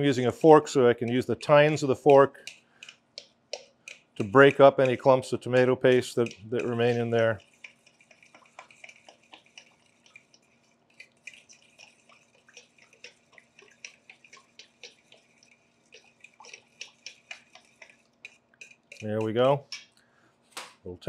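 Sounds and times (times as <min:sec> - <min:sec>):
fork clicking against metal bowl: 0:01.0 - 0:10.4, 0:11.0 - 0:20.0.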